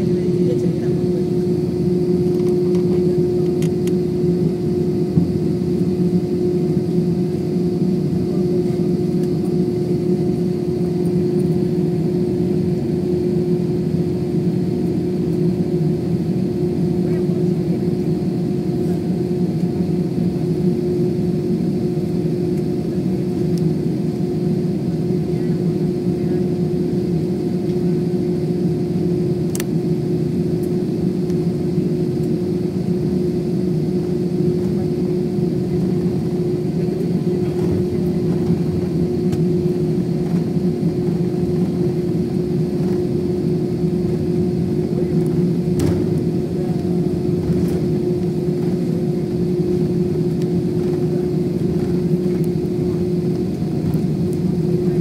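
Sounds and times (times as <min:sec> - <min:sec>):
constant hum: 0:00.0 - 0:55.0
jet engine drone in cabin: 0:00.0 - 0:55.0.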